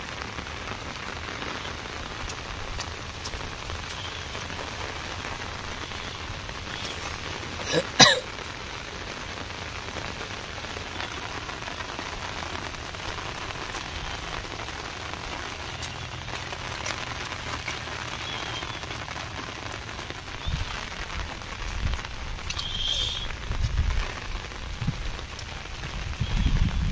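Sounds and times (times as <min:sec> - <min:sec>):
light rain falling: 0:00.0 - 0:26.9.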